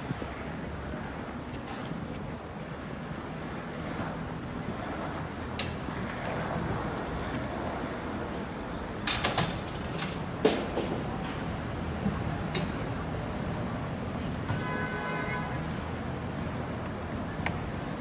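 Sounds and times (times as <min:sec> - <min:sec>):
passing traffic: 0:00.0 - 0:18.0.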